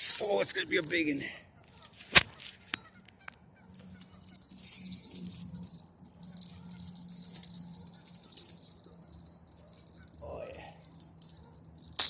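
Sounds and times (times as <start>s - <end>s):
fishing reel rattling and rasping: 0.0s - 1.4s, 3.7s - 12.0s.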